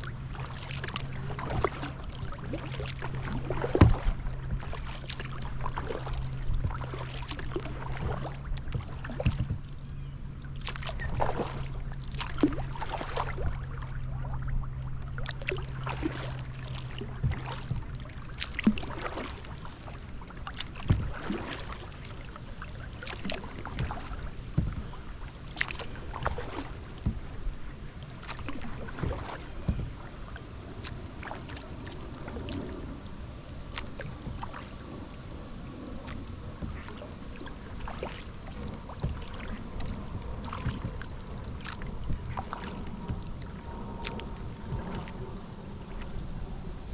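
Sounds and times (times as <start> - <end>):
kayak paddle splashing: 0.0 - 46.9
low steady hum: 0.0 - 46.9.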